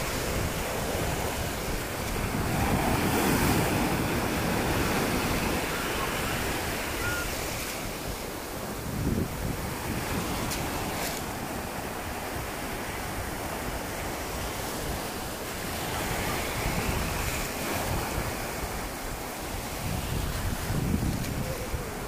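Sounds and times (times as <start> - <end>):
small waves breaking on shore: 0.0 - 22.0.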